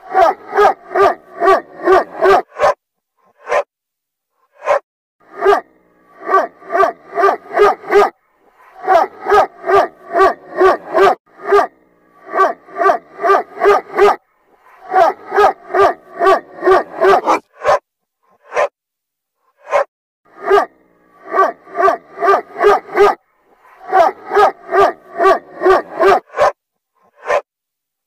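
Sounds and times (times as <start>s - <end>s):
reversed dog barking: 0.0s - 3.7s, 4.4s - 18.7s, 19.5s - 27.5s.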